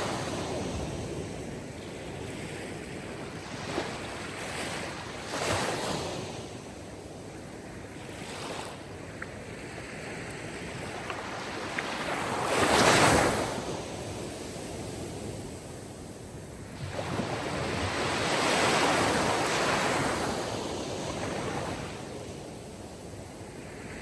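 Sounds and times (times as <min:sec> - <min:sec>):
sea waves breaking on shore: 0:00.0 - 0:06.8, 0:07.8 - 0:15.9, 0:16.6 - 0:24.0.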